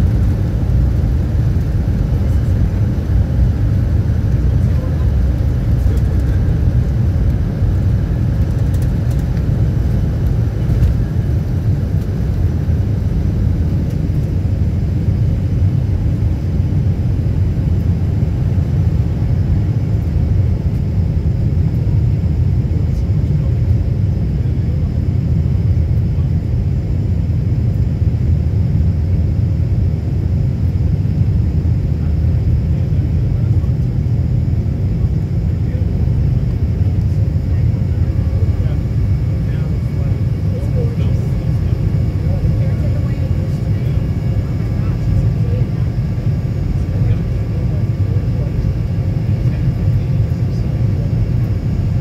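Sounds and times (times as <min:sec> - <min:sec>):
jet engines deep rumble: 0:00.0 - 0:52.0.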